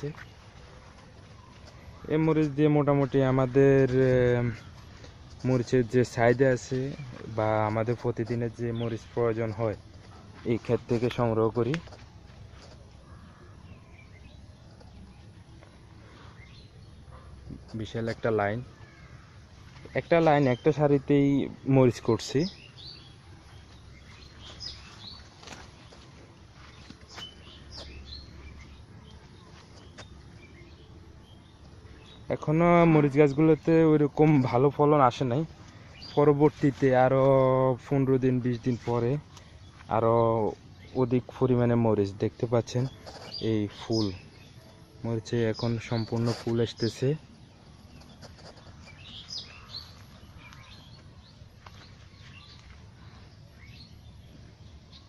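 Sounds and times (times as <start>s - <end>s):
faint outdoor background noise: 0.0s - 55.0s
low steady background noise: 0.0s - 55.0s
small birds chirping: 0.0s - 55.0s.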